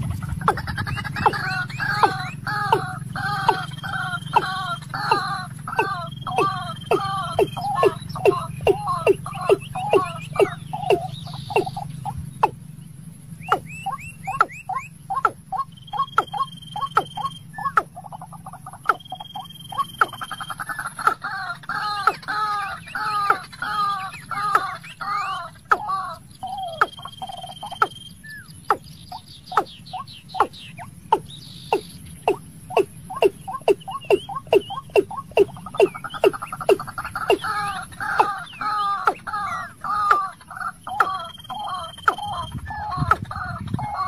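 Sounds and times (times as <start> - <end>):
bird calls: 0.0 - 44.0
faint high steady whine: 0.0 - 44.0
two-part bird calls: 0.0 - 44.0.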